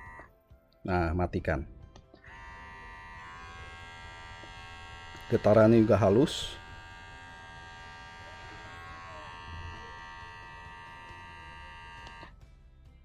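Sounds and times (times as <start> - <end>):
hair clipper buzzing: 0.0 - 0.3, 2.2 - 12.4.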